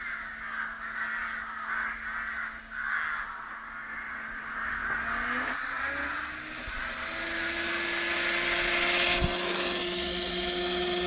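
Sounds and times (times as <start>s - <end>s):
motor running with steady whine: 0.0s - 11.0s.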